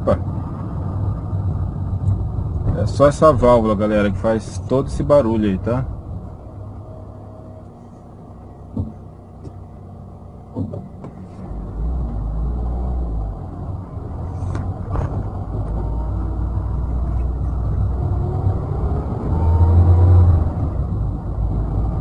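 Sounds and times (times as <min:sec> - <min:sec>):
car engine: 0:00.0 - 0:22.0
road rumble: 0:00.0 - 0:22.0.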